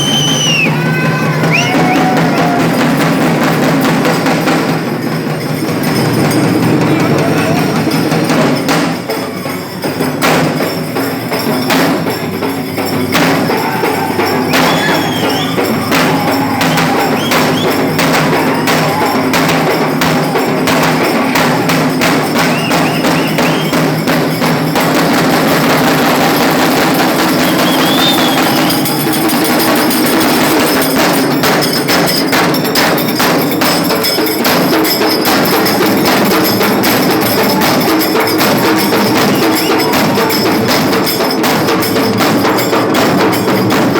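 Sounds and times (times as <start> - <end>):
fast percussion music: 0.0 - 43.9.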